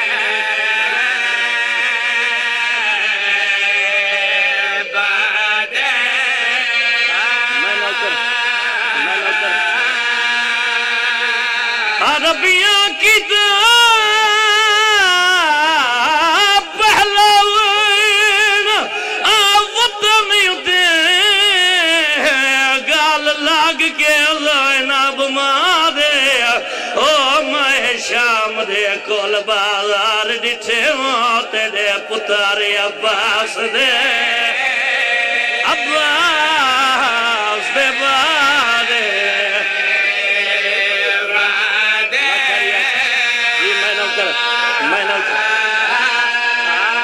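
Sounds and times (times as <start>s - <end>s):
lead reciter singing: 0.0s - 47.0s
men chanting a mourning lament: 0.0s - 47.0s.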